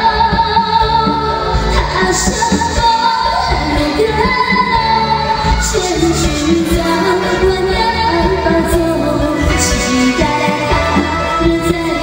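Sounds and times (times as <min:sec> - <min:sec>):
band playing: 0:00.0 - 0:12.0
woman singing pop song: 0:00.0 - 0:12.0.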